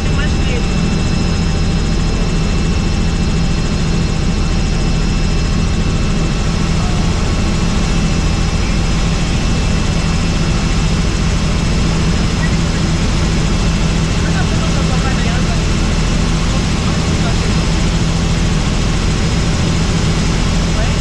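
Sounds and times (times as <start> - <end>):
helicopter rotor drone: 0.0 - 21.0.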